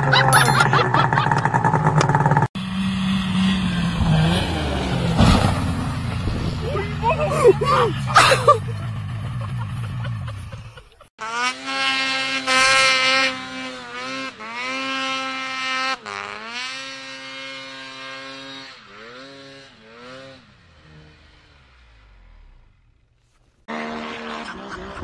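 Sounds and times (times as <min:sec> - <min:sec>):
snowmobile engine revving: 0:00.0 - 0:22.8, 0:23.6 - 0:25.0.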